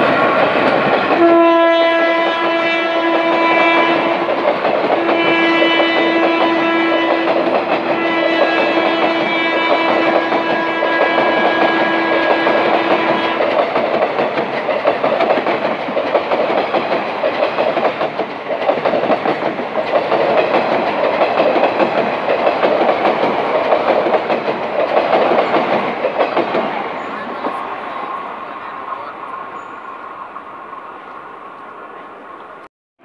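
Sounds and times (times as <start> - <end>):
train wheels clickety-clack: 0.0 - 32.7.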